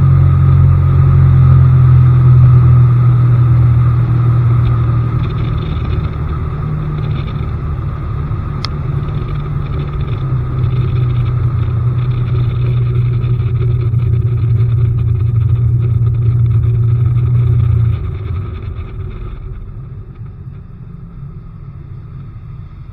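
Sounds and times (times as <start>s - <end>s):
outboard motor running: 0.0s - 22.9s.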